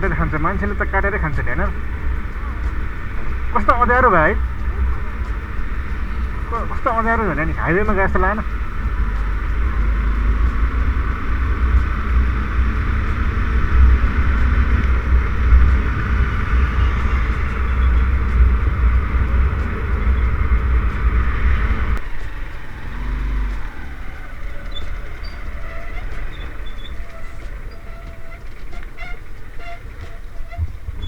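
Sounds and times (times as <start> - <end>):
motorcycle wind and road noise: 0.0 - 31.0.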